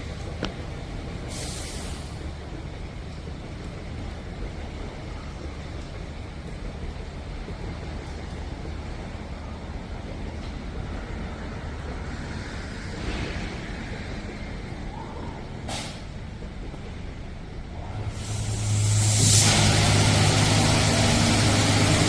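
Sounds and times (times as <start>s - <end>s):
car wash machinery hum and hiss: 0.0s - 22.0s.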